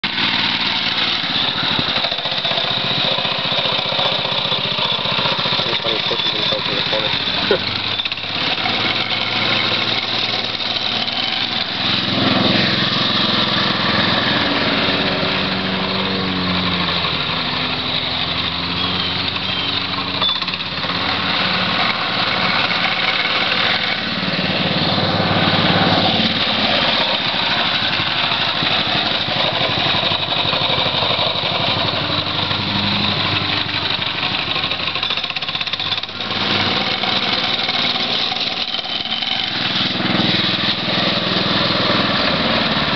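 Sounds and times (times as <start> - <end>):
small engine revving: 0.0 - 42.9.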